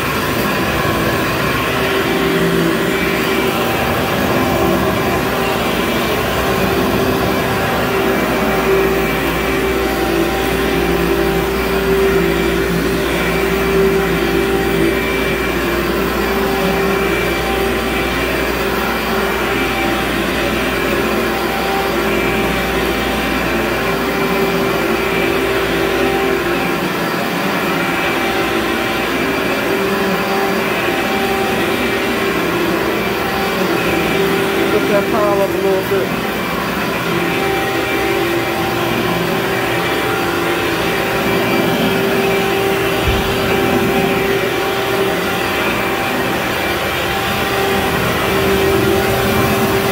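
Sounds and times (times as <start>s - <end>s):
carpet cleaner motor whine: 0.0s - 49.9s.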